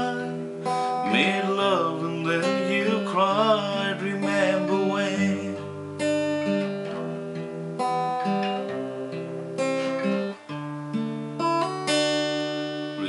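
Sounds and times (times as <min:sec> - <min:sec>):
acoustic guitar playing chords: 0:00.0 - 0:13.0.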